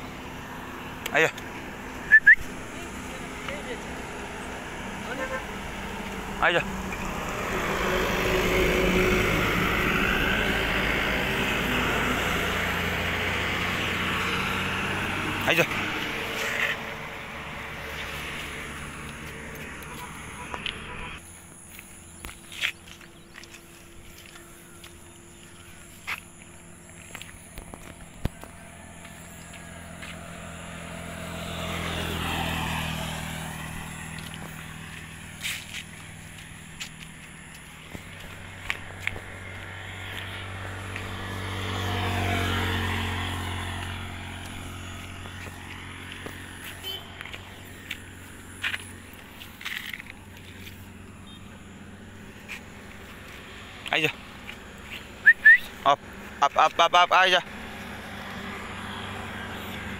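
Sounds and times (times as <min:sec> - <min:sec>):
vehicle engine drone passing: 0:00.0 - 0:59.9.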